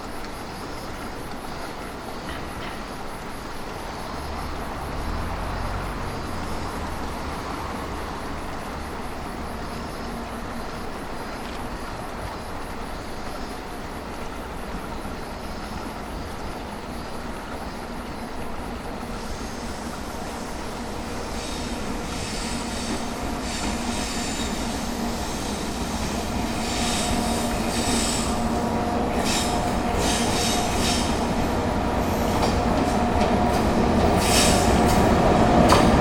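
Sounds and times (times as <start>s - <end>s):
low train rumble: 0.0s - 36.0s
train mechanical hum: 0.0s - 36.0s.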